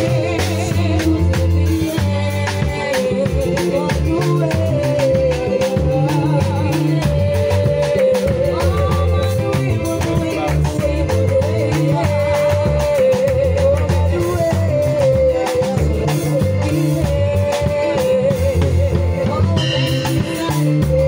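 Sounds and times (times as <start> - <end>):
drum kit: 0.0 - 21.0
electric bass guitar: 0.0 - 21.0
electronic keyboards: 0.0 - 21.0
woman singing: 0.0 - 21.0.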